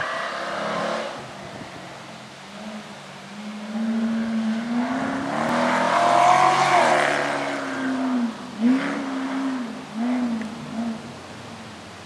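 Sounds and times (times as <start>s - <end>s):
car engine revving past: 0.0s - 11.1s.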